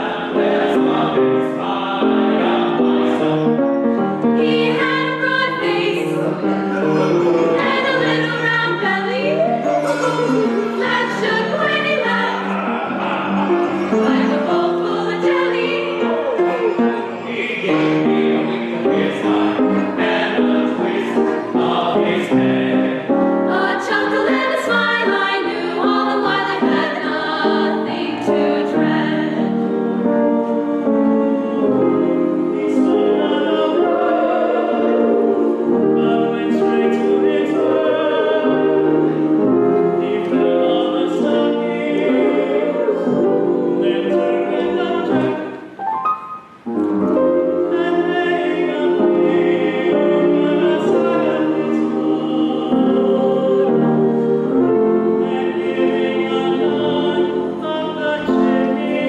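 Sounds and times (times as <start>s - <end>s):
choir singing a carol: 0.0s - 59.0s.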